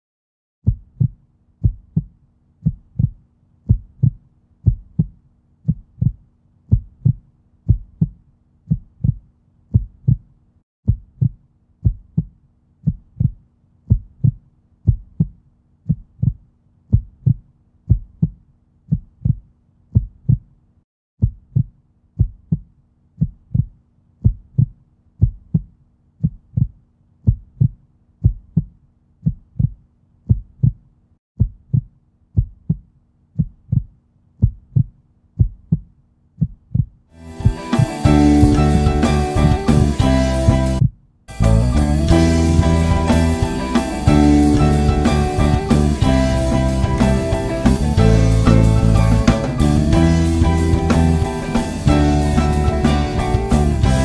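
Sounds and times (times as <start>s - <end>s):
low rhythmic thumps: 0.6s - 10.3s, 10.9s - 20.5s, 21.2s - 30.8s, 31.4s - 54.0s.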